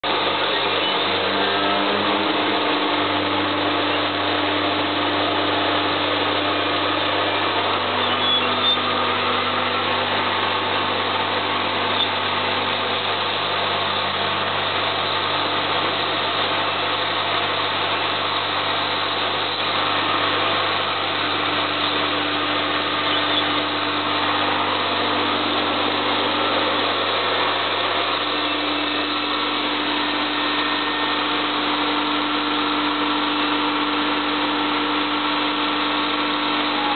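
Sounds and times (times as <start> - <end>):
industrial vacuum running: 0.0 - 36.9.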